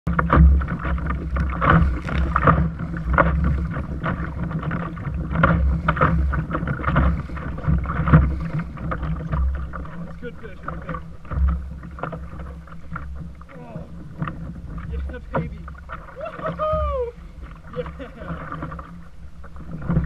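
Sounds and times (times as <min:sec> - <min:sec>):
water splashing against kayak hull: 0:00.1 - 0:20.0
wind rumbling on microphone: 0:00.1 - 0:20.0.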